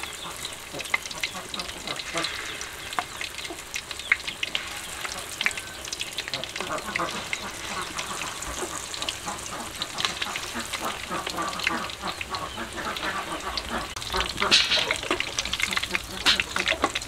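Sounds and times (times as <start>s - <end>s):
metal utensil stirring oil: 0.0s - 17.0s
oil sizzling and crackling: 0.0s - 17.0s.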